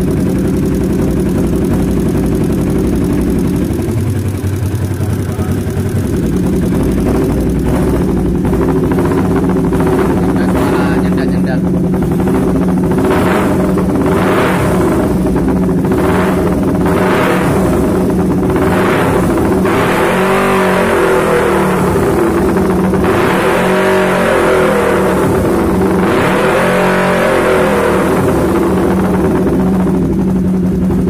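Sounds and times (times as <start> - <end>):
motorcycle engine revving roughly: 0.0 - 31.0.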